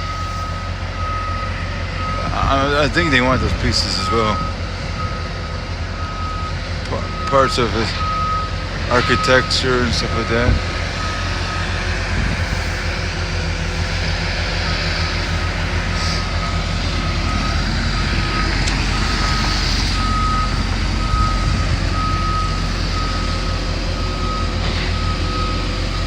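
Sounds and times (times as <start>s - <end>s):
back-up alarm beeping: 0.0s - 26.0s
diesel engine running: 0.0s - 26.0s.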